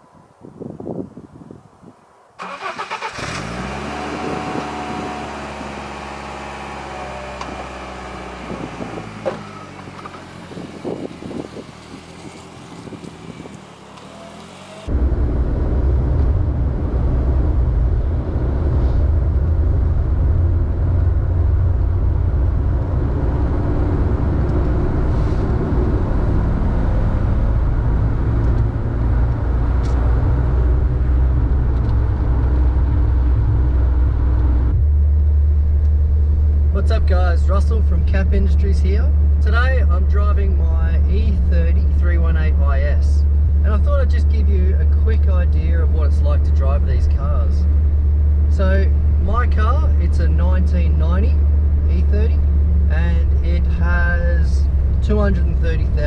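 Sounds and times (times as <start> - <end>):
low rumble of car driving: 0.0 - 56.0
car engine running: 2.4 - 56.0.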